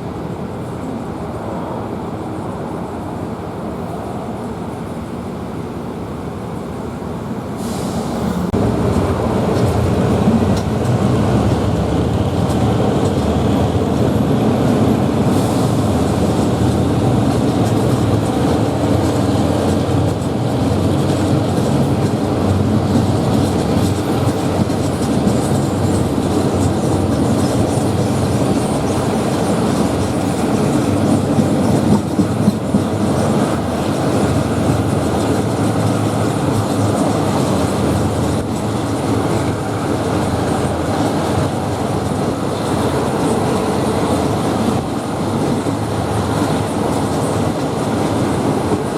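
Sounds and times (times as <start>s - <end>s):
train rumbling on track: 0.0s - 48.9s
wheels clacking over rail joints: 8.5s - 48.9s.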